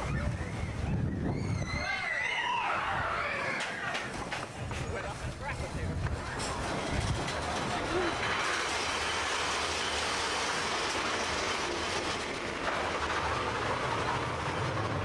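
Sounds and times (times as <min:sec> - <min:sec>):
roller coaster wheels on rail: 0:00.0 - 0:15.0.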